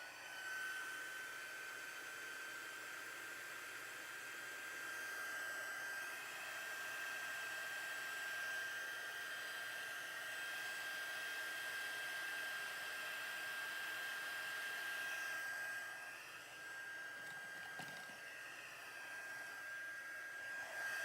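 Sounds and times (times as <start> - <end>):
heat gun blowing with fan whine: 0.0 - 21.0.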